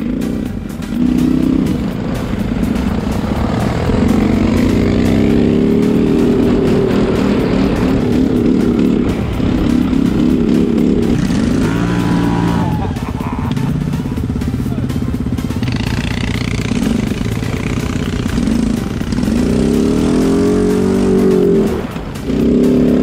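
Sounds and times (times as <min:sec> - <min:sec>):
quad bike engine: 0:00.0 - 0:23.0.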